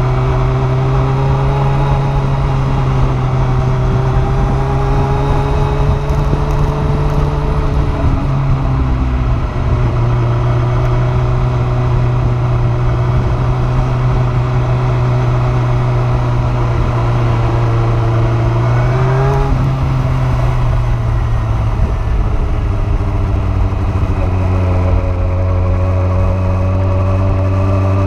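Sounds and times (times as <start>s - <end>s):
motorcycle engine cruising: 0.0s - 28.0s
wind noise: 0.0s - 28.0s.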